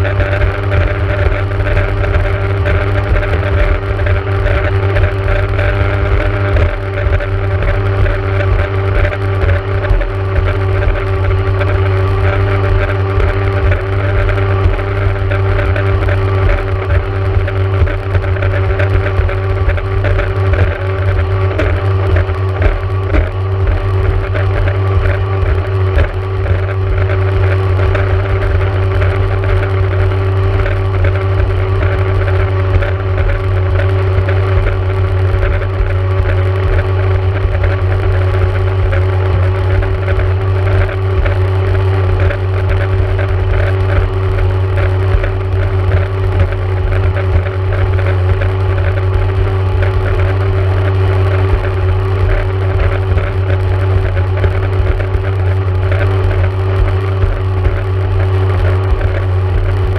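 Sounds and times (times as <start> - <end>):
crackling rattle: 0.0 - 59.9
jet ski engine running: 0.0 - 59.9.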